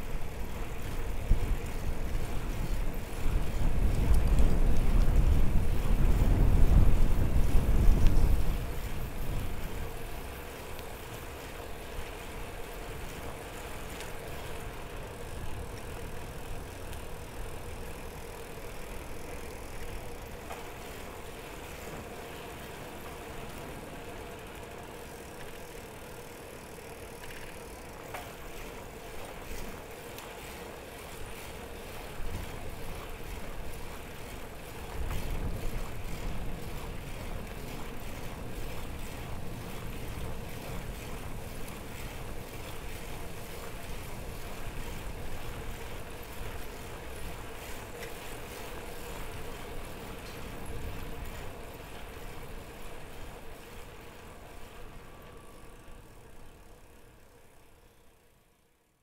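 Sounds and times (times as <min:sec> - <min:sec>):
bicycle tyre and road noise: 0:00.0 - 0:59.0.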